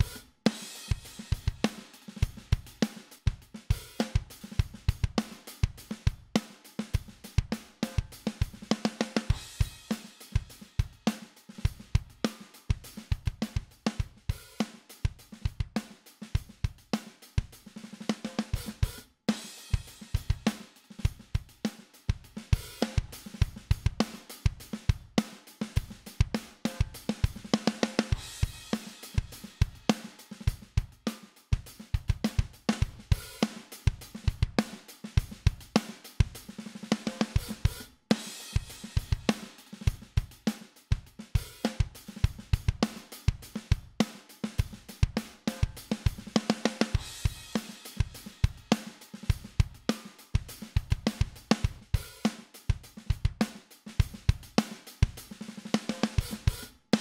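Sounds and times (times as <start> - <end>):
drum kit playing a groove: 0.0 - 57.0.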